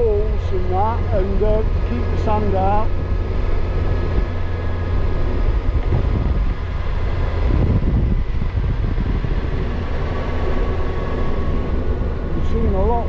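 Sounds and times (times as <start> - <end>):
vehicle engine rumble: 0.0 - 13.0
wind noise: 0.0 - 13.0.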